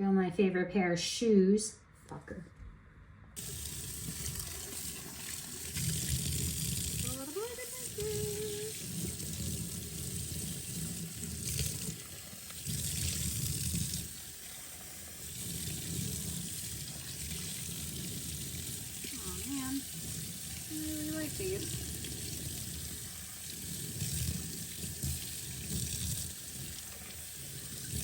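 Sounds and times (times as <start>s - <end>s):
tap water running into sink: 3.4s - 28.0s.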